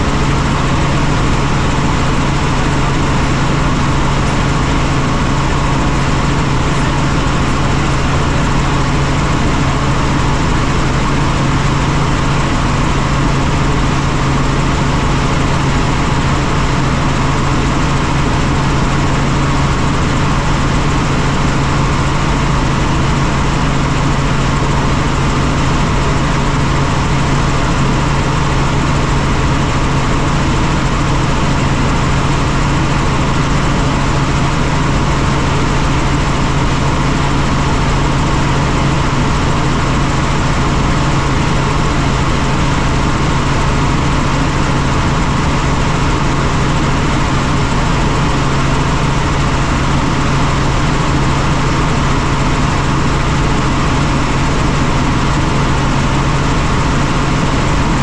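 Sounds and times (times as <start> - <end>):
helicopter turbine and rotors: 0.0 - 58.0.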